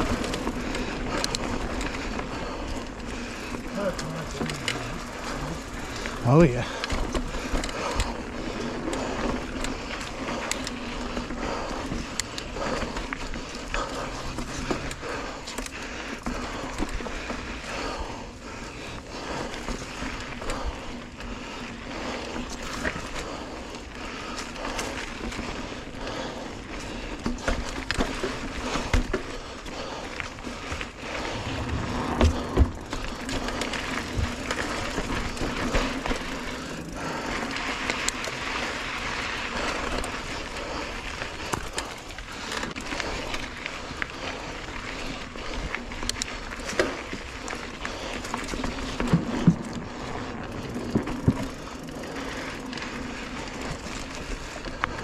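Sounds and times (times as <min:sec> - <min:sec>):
bike rattling over bumps: 0:00.0 - 0:55.0
bike tyres rolling on dirt: 0:00.0 - 0:55.0.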